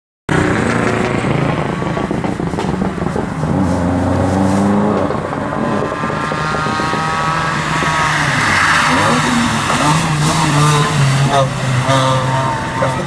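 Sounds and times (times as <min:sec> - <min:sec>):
rally car engine running hard: 0:00.3 - 0:13.0.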